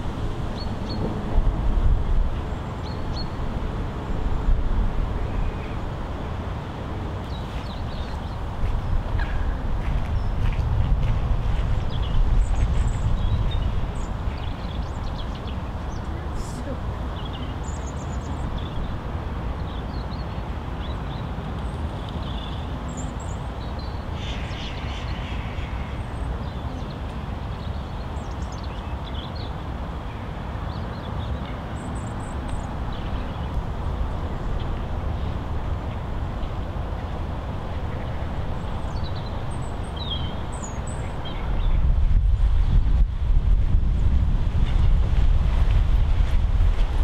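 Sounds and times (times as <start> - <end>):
wind noise on microphone: 0.0 - 31.1, 31.8 - 47.0.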